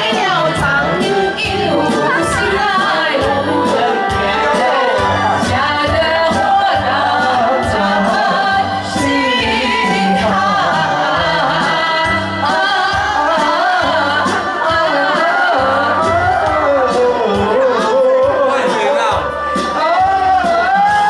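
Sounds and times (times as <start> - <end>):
instrumental music with bass line: 0.0 - 21.0
person singing: 0.0 - 21.0.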